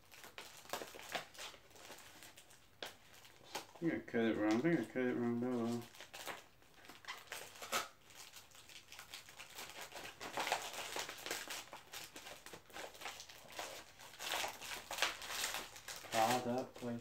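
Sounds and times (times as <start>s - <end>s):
paper envelope crinkling and tearing: 0.0s - 17.0s.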